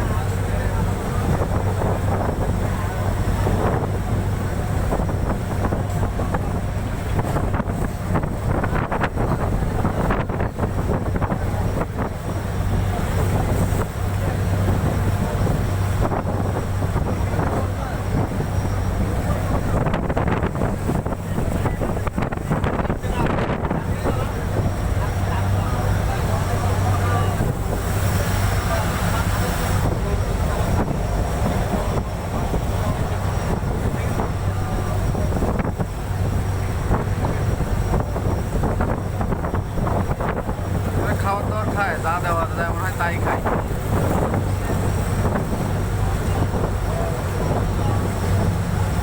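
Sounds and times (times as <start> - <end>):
boat engine humming: 0.0 - 49.0
wind buffeting microphone: 0.0 - 49.0.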